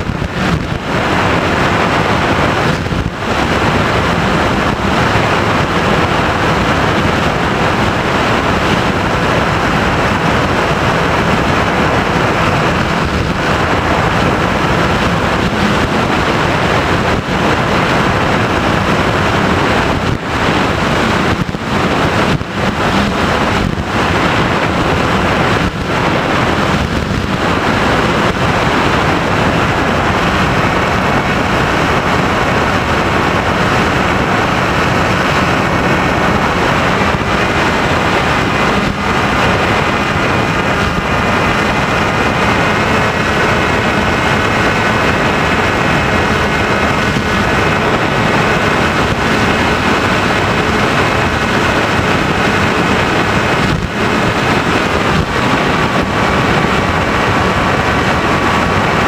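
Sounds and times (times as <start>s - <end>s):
airflow rushing over microphone: 0.0s - 59.0s.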